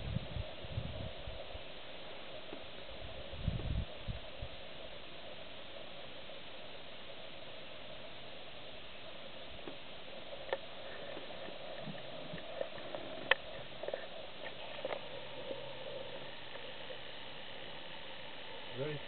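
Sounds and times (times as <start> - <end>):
low outdoor background hiss: 0.0 - 19.0.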